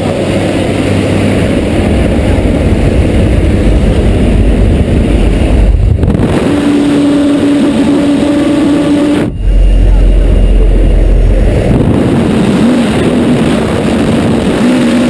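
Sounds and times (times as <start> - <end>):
aircraft engine noise: 0.0 - 15.0
steady humming tone: 0.0 - 15.0
wind buffeting microphone: 0.0 - 15.0
wind rushing: 0.8 - 15.0.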